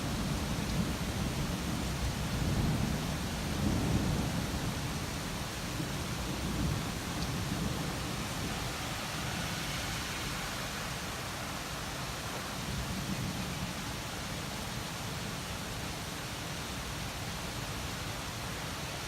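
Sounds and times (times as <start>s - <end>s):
rain hissing: 0.0s - 16.2s.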